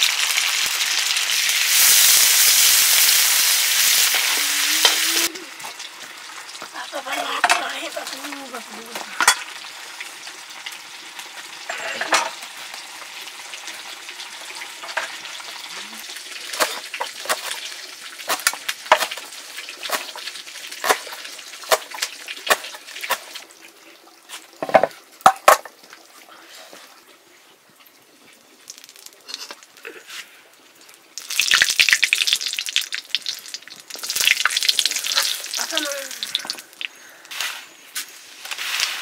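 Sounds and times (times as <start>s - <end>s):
food sizzling in a pan: 0.0s - 26.9s, 28.5s - 39.0s.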